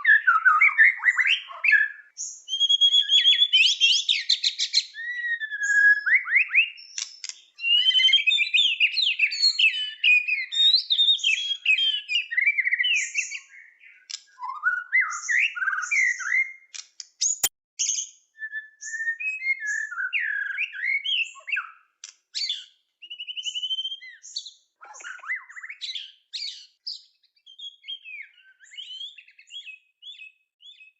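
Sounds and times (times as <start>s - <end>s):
bird singing whistles and trills: 0.0s - 30.9s.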